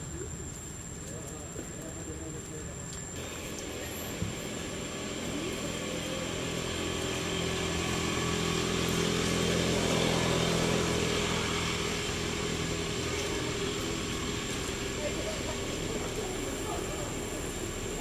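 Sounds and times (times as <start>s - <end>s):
motor vehicle engine running: 3.1s - 18.0s.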